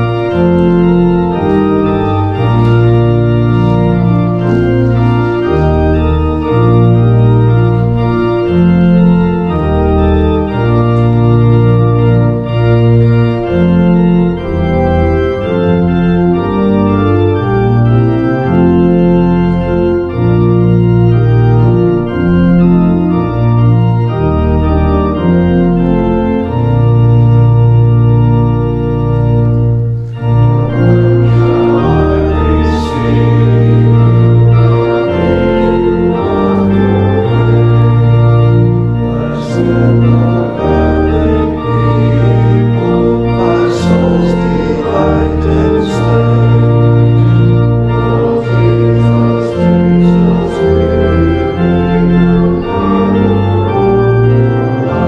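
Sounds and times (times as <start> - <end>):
organ playing chords: 0.0 - 55.0.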